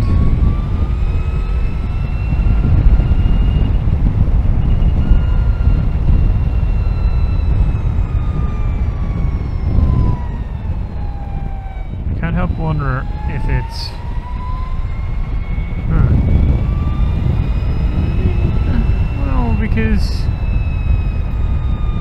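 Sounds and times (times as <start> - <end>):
electric motor whining: 0.0 - 22.0
wind rumble: 0.0 - 22.0.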